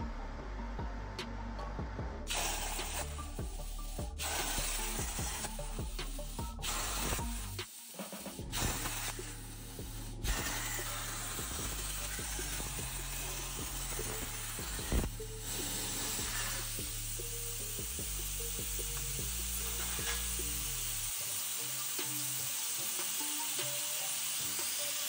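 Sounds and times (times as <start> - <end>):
music with a steady beat: 0.0 - 25.0
plasma torch hissing: 2.3 - 25.0.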